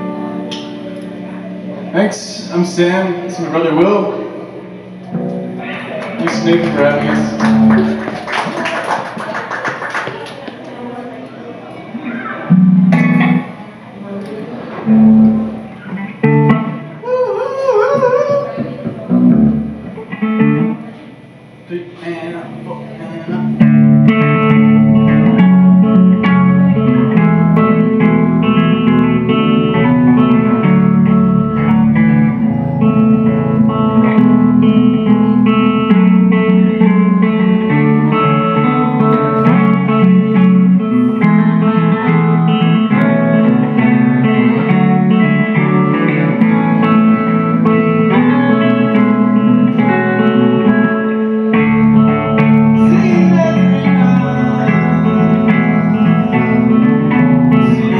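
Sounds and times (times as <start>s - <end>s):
loud amplified guitar music: 0.0s - 10.2s, 11.8s - 57.9s.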